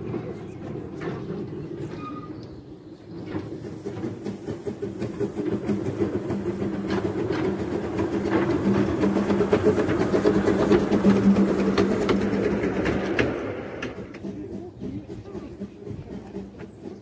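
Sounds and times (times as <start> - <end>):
steam locomotive exhaust beats: 0.0 - 17.0
wheels clicking over rail joints: 0.0 - 17.0.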